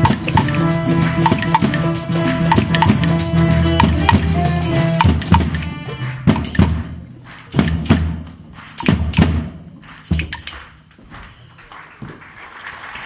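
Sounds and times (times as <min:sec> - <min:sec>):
slow deep drum beats: 0:00.0 - 0:10.6.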